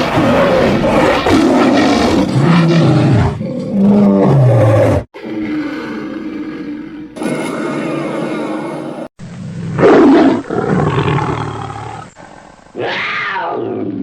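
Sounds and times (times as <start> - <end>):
dragon roar: 0.0 - 12.1.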